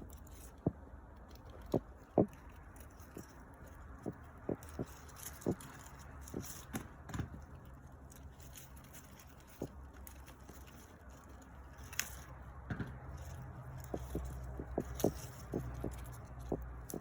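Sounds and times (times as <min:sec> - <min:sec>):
low steady hum: 0:00.0 - 0:17.0
stems snapping and crackling: 0:00.0 - 0:17.0.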